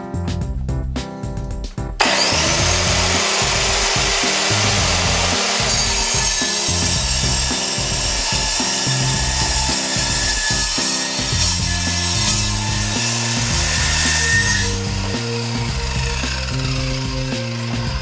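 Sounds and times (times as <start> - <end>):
background music with a beat: 0.0 - 18.0
circular saw cutting steel: 2.0 - 18.0.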